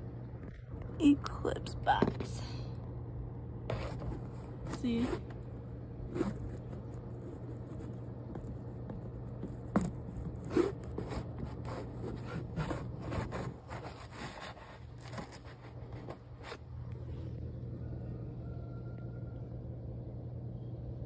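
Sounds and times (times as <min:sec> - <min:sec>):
low hum: 0:00.0 - 0:13.7, 0:14.9 - 0:21.0.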